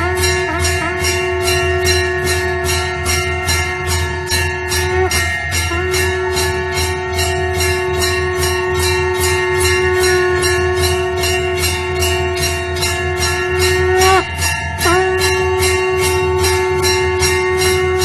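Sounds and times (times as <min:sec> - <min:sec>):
conch shell blown: 0:00.0 - 0:18.0
temple bells ringing: 0:00.0 - 0:18.0.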